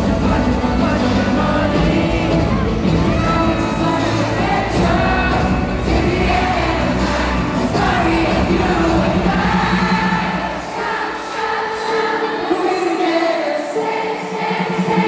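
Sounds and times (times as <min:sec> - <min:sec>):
live pop concert singing: 0:00.0 - 0:15.0.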